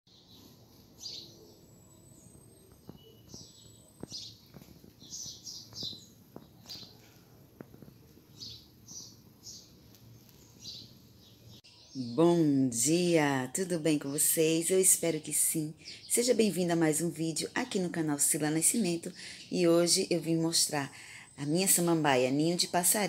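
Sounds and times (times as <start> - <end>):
small birds chirping: 0.1 - 23.0.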